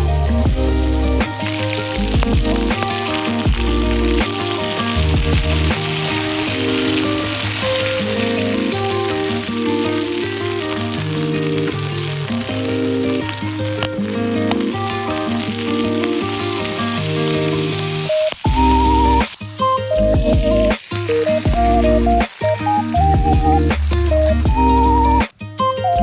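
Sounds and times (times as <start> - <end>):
food sizzling in a pan: 0.0 - 23.1
melodic background music with bass: 0.0 - 26.0.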